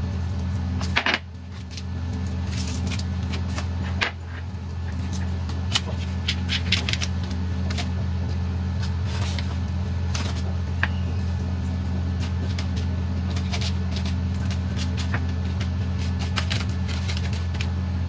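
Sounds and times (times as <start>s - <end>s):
steady low hum: 0.0s - 18.0s
brush tapping on foil: 0.4s - 18.0s.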